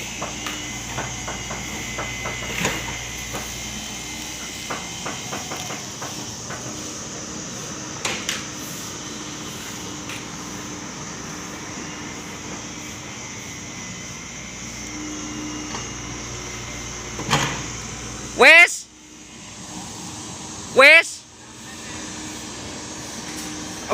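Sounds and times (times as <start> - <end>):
mini excavator running: 0.0 - 23.9.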